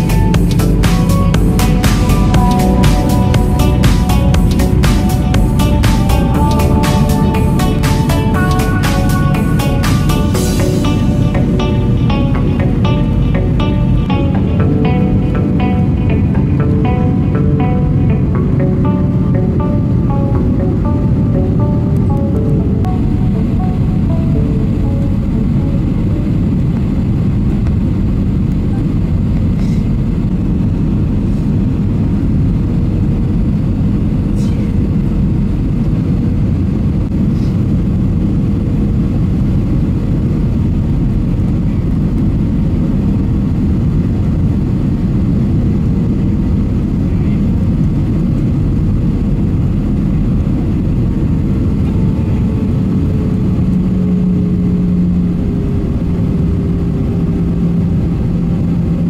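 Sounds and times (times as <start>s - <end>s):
deeper hum: 0.0s - 59.0s
jet engine rumble and airflow: 0.0s - 59.0s
steady engine tone: 0.0s - 59.0s.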